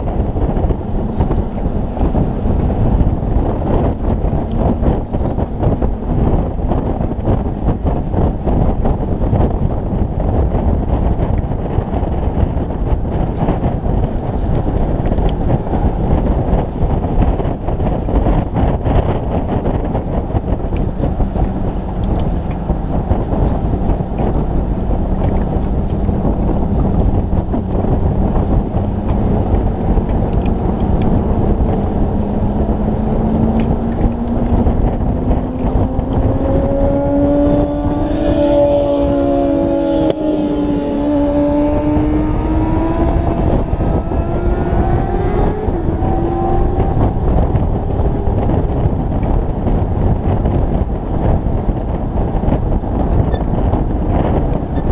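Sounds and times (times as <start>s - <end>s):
motorcycle engine: 0.0s - 54.9s
wind rushing over microphone: 0.0s - 54.9s.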